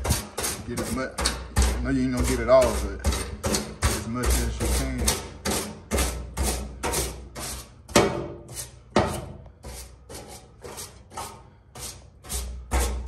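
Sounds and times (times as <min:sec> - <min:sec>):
brush scrubbing metal: 0:00.0 - 0:13.0.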